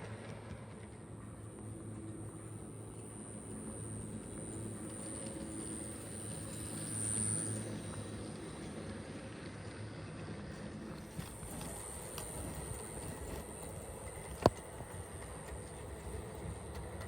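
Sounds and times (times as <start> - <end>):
model train motor hum: 0.0 - 17.0
wheels clicking on rail: 0.0 - 17.0.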